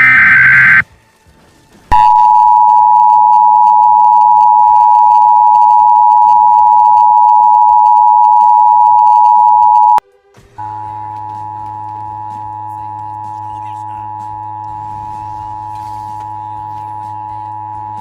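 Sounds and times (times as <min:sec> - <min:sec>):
two-tone alarm signal: 0:00.0 - 0:00.8, 0:01.9 - 0:10.0, 0:10.6 - 0:18.0.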